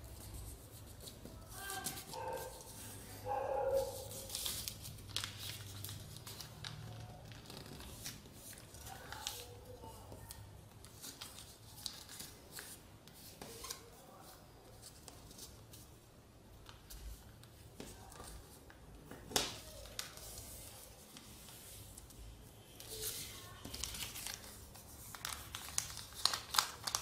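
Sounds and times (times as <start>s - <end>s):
paper rustling and crinkling: 0.0s - 16.0s, 16.6s - 22.2s, 22.8s - 27.0s.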